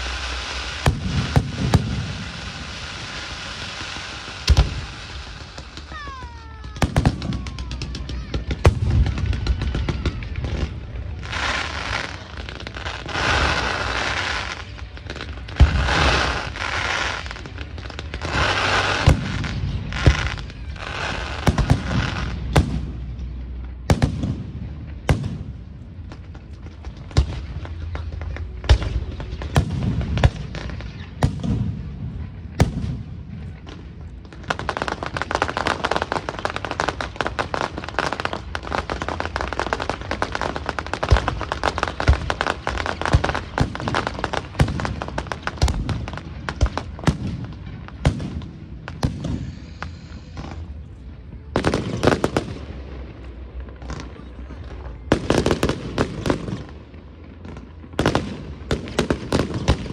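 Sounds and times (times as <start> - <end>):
fireworks bangs: 0.0 - 59.9
fireworks crackle: 0.0 - 59.9.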